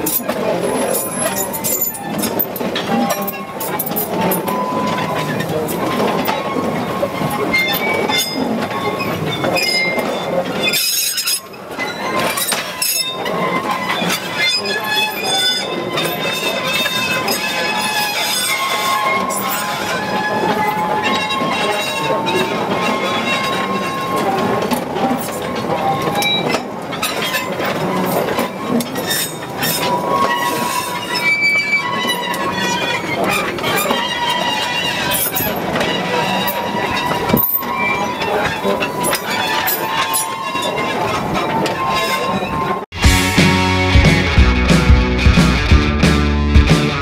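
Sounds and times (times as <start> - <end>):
clicks and clanks: 0.0 - 42.8
train wagons rolling on rails: 0.0 - 43.0
wheels squealing: 0.0 - 43.8.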